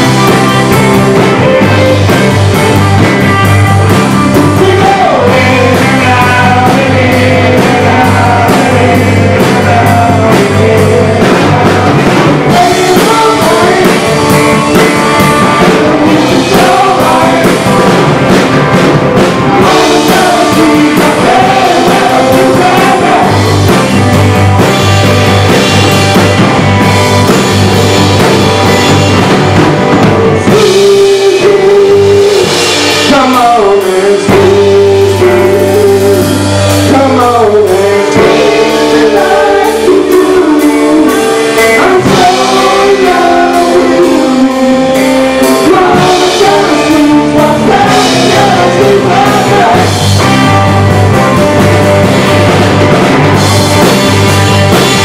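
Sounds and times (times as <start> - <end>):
person singing: 0.0 - 26.2, 30.0 - 52.0
bending guitar melody: 0.0 - 55.0
rock band playing: 0.0 - 55.0.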